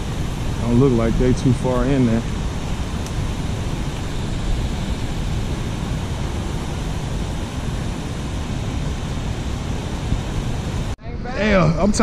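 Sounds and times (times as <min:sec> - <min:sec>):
river water rushing through floodgates: 0:00.0 - 0:11.0.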